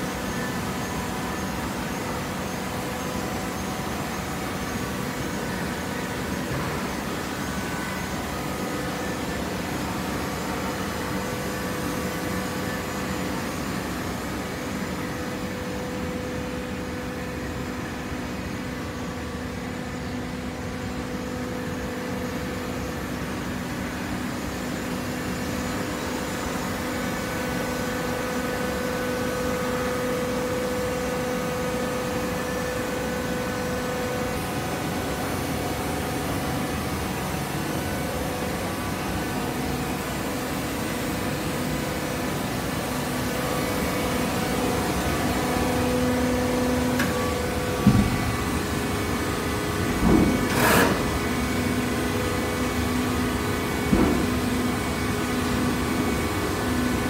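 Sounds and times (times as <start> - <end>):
baler machine hum: 0.0 - 57.0.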